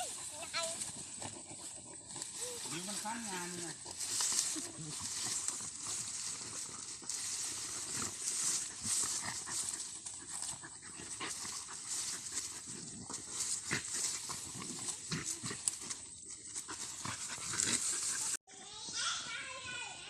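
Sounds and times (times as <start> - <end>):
dog panting: 0.0 - 18.4.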